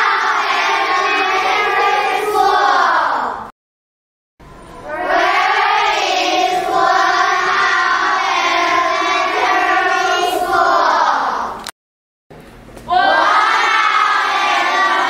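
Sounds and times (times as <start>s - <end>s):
children chanting together: 0.0s - 3.5s, 4.8s - 11.6s, 12.9s - 15.0s
loud children's voices: 0.0s - 3.5s, 4.8s - 11.6s, 12.9s - 15.0s.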